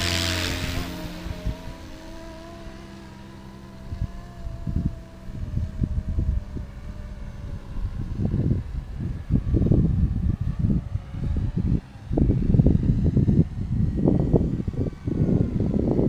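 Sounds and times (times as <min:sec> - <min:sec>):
low buffeting bursts: 0:00.0 - 0:16.0
rc helicopter motor whine: 0:00.0 - 0:16.0.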